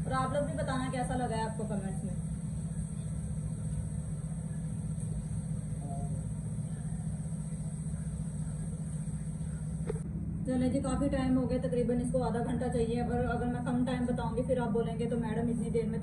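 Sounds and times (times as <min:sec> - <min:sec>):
microwave oven humming: 0:00.0 - 0:16.0.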